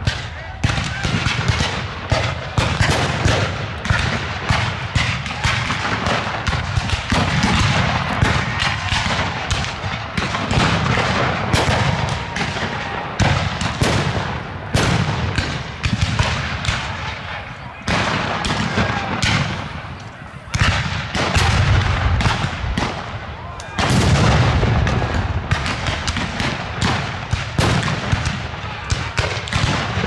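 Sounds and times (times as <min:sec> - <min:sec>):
muskets firing: 0:00.0 - 0:30.0.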